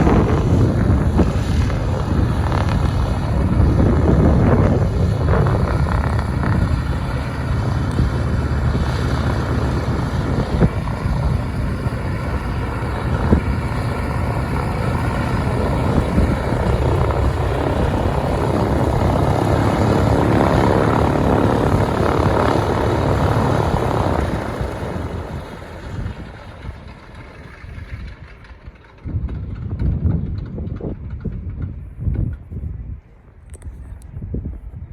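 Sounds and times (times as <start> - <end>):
aircraft radial engines running: 0.0 - 34.6.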